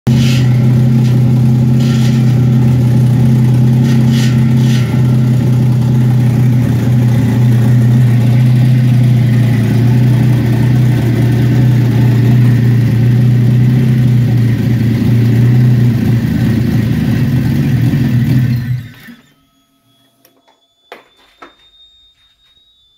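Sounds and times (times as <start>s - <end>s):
turbocharged engine running: 0.0s - 19.3s.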